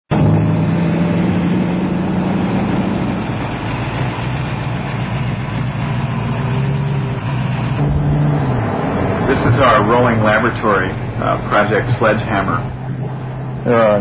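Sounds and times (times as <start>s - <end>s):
car engine running: 0.1s - 14.0s.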